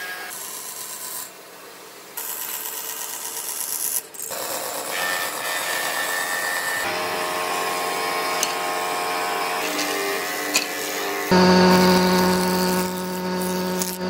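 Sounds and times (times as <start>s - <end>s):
band saw cutting wood: 2.2s - 14.0s
power tool humming: 2.3s - 14.0s.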